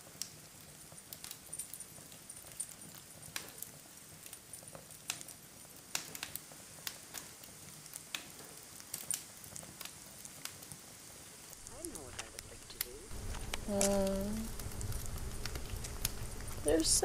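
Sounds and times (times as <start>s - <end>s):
bonfire crackling: 0.0s - 17.0s
burning wood popping and snapping: 0.0s - 17.0s.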